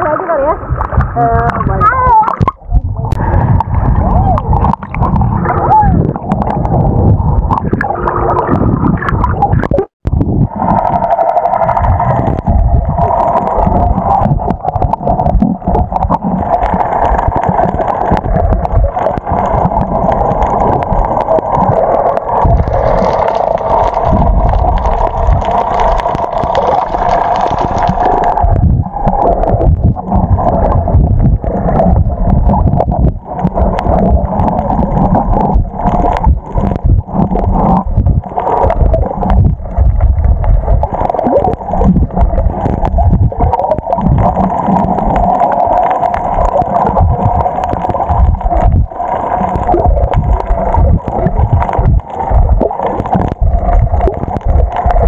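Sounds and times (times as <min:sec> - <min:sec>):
underwater rushing and gurgling: 0:00.0 - 0:55.0
water splashing and sloshing: 0:00.0 - 0:55.0.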